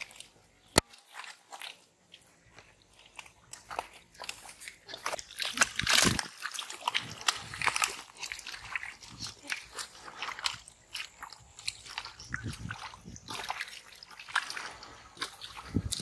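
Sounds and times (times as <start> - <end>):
hands squelching in wet mud: 0.0 - 16.0.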